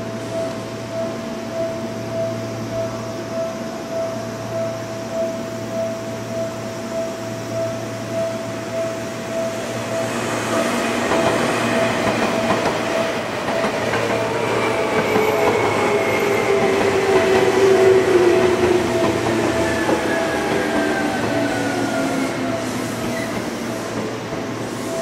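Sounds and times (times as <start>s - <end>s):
level-crossing alarm ringing: 0.0s - 25.0s.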